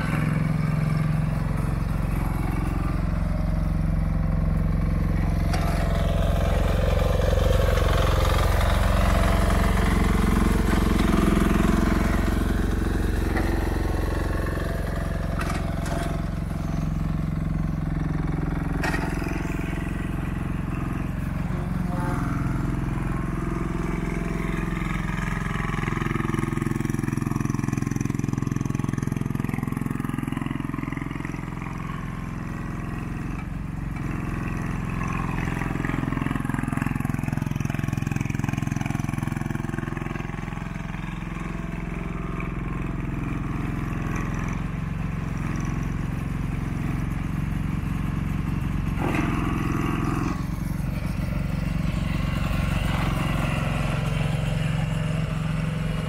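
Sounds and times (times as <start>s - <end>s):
mini excavator engine running: 0.0s - 56.0s.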